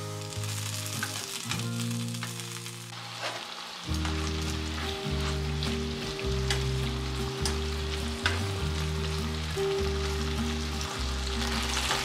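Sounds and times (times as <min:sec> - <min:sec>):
eggplant sizzling in a frying pan: 0:00.0 - 0:12.0
soft background music: 0:00.0 - 0:12.0.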